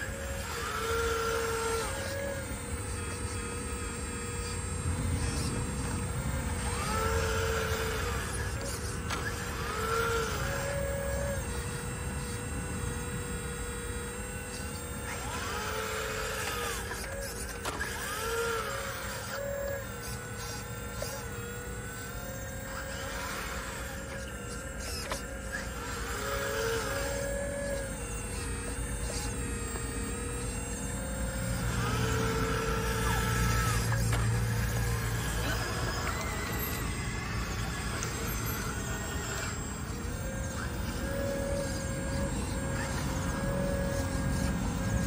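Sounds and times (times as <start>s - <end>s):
hydraulic pump whine: 0.0s - 45.0s.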